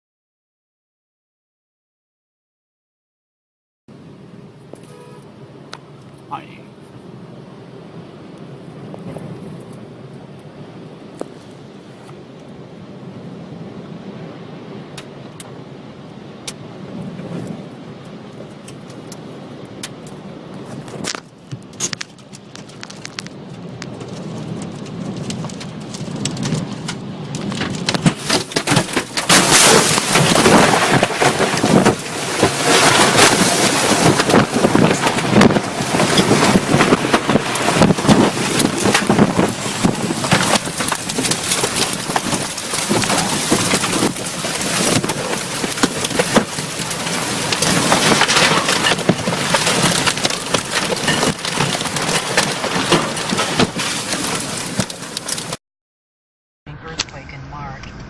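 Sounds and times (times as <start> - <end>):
heavy rain: 3.9 - 55.6
wind: 3.9 - 55.6, 56.7 - 58.0.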